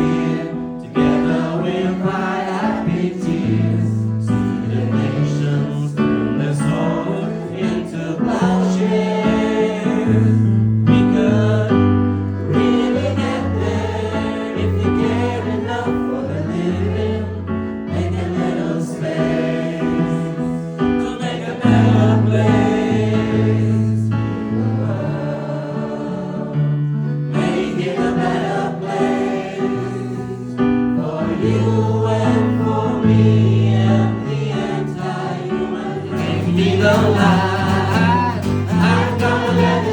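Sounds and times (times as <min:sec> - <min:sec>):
group singing: 0:00.0 - 0:39.9
instrumental accompaniment: 0:00.0 - 0:39.9.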